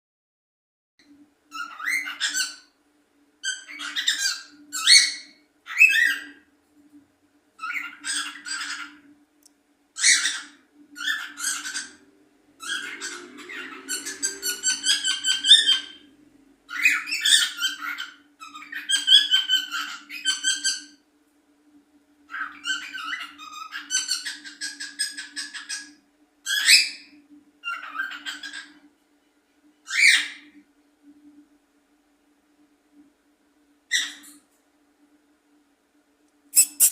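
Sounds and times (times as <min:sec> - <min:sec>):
faint steady hum: 0:01.0 - 0:36.9.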